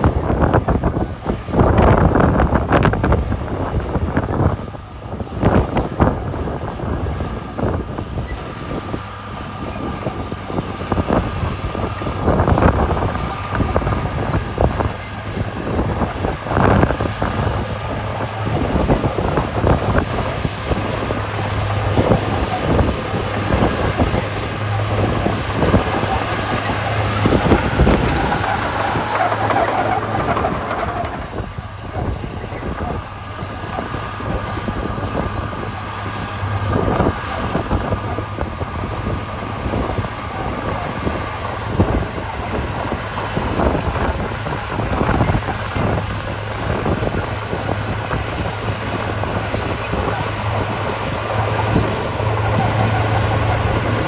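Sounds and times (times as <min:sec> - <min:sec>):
bulldozer diesel engine running: 0:00.0 - 0:54.0
tracks clanking and crunching gravel: 0:02.6 - 0:54.0.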